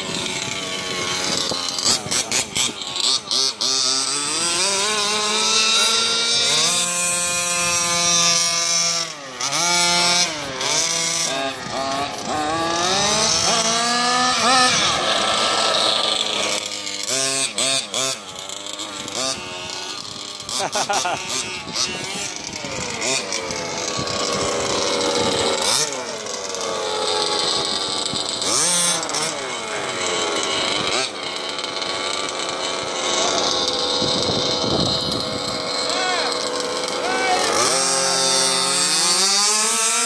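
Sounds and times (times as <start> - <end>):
small two-stroke engine revving: 0.0 - 40.0.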